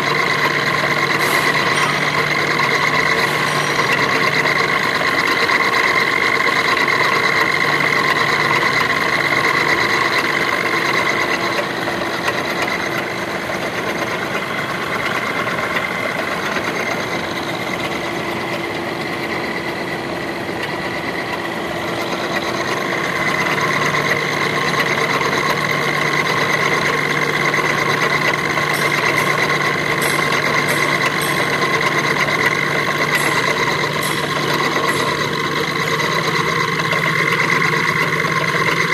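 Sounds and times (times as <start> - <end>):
machine tool humming with high whine: 0.0 - 38.9.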